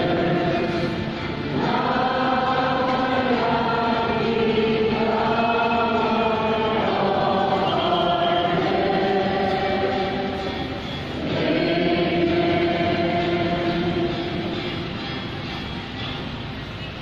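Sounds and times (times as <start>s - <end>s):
congregation singing a hymn: 0.0s - 15.3s.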